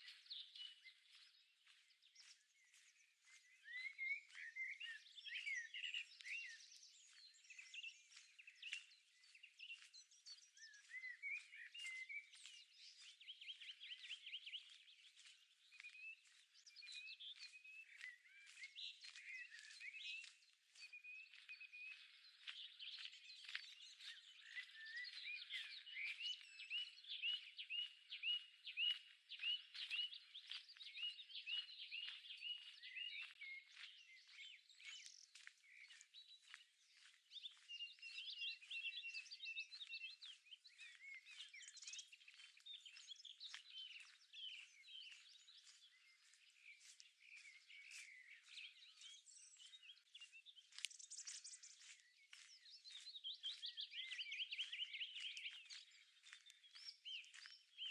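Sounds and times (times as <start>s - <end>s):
wild birds singing: 0.0s - 57.9s.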